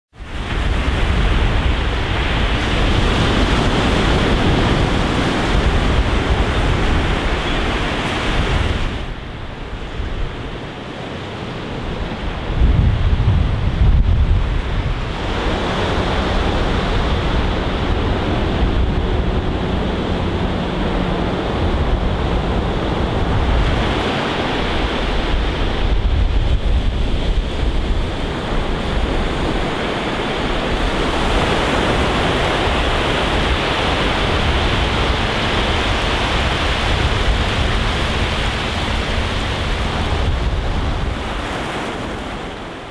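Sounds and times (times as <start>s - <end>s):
wind buffeting microphone: 0.1s - 42.9s
ocean surf breaking: 0.2s - 42.9s.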